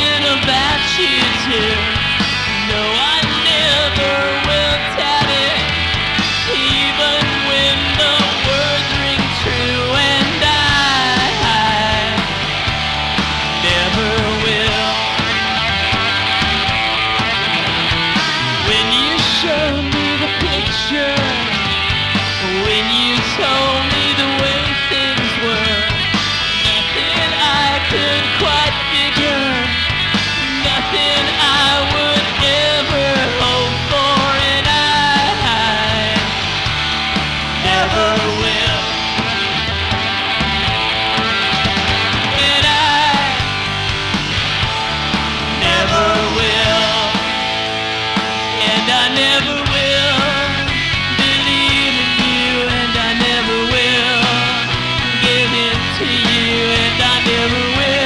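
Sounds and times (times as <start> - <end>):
lead guitar bending: 0.0 - 58.0
live rock band playing: 0.0 - 58.0.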